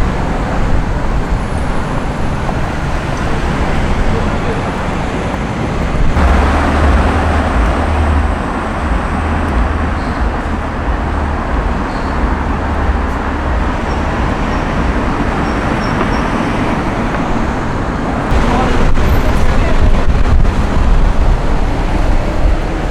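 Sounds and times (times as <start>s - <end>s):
heavy low rumble: 0.0s - 22.9s
vehicles passing: 0.0s - 22.9s.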